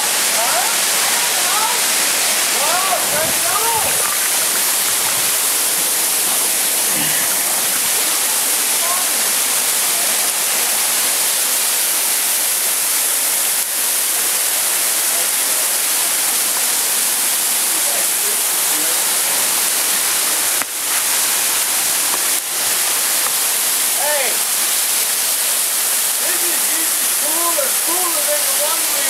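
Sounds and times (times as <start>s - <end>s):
waterfall rushing over rocks: 0.0s - 29.0s.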